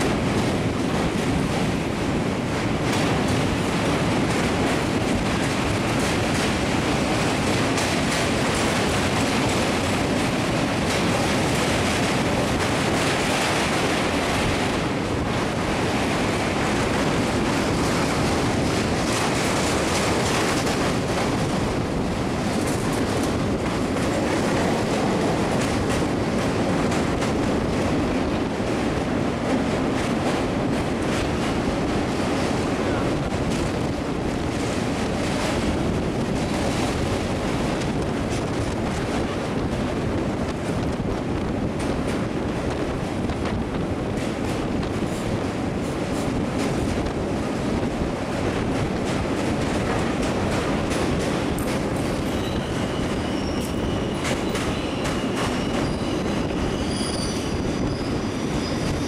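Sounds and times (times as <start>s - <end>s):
train wheel and rail noise: 0.0s - 59.0s
wind buffeting microphone: 0.0s - 59.0s.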